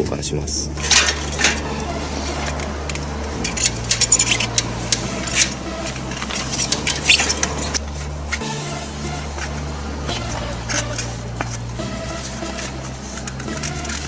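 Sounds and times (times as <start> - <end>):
low steady hum: 0.0 - 14.0
tyre clicks and rustles: 0.8 - 8.4, 9.3 - 14.0.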